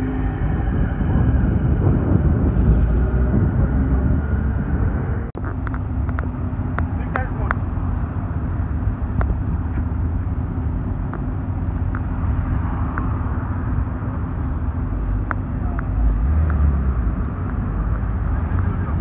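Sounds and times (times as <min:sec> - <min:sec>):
car engine rumbling past: 0:00.0 - 0:19.0.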